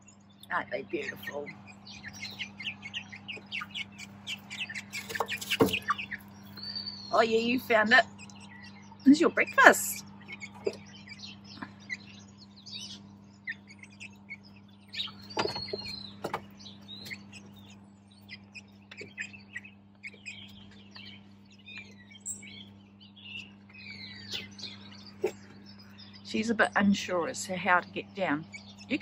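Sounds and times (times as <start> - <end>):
faint low hum: 0.0 - 29.0
young hens cheeping: 0.0 - 29.0.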